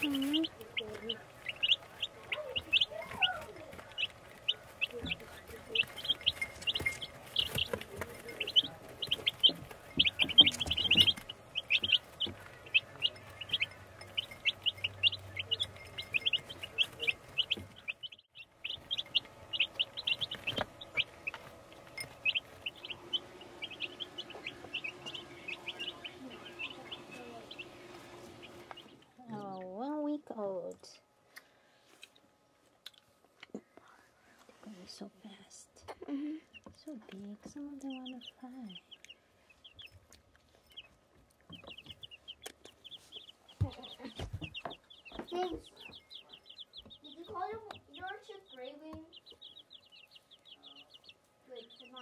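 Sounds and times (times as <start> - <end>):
chicks peeping: 0.0 - 32.2, 35.8 - 52.0.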